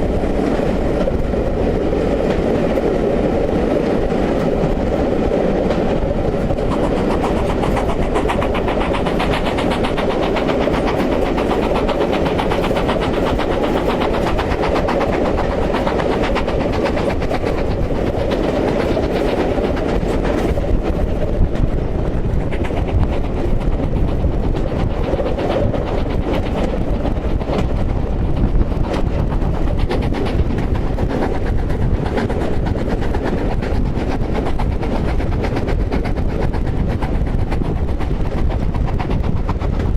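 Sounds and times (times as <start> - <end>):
train wheels rumbling on rail: 0.0 - 39.9
wheels clickety-clack: 0.0 - 39.9.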